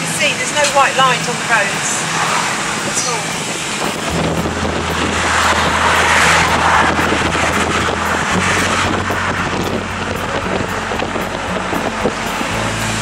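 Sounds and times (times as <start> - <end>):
car engine humming: 0.0 - 13.0
wind and road noise: 0.0 - 13.0.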